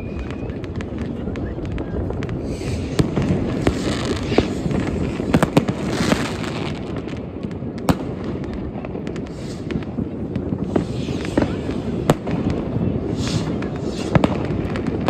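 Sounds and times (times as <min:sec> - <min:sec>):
distant fireworks rumble: 0:00.0 - 0:15.0
firecracker bangs and crackles: 0:00.0 - 0:15.0.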